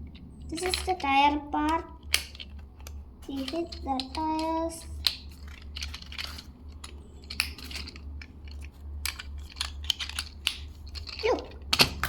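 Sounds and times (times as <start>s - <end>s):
low hum: 0.0s - 12.0s
plastic toy parts clicking: 0.1s - 12.0s.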